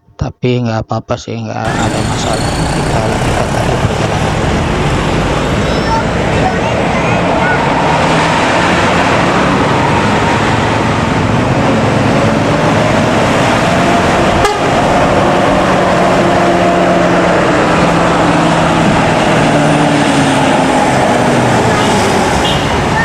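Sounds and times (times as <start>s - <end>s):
road noise: 1.6s - 23.0s
vehicle engine hum: 1.6s - 23.0s.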